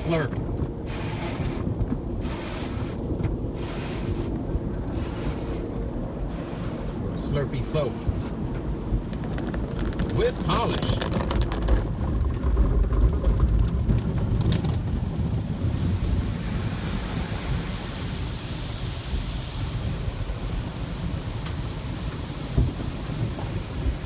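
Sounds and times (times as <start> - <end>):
heavy low rumble: 0.0 - 24.0.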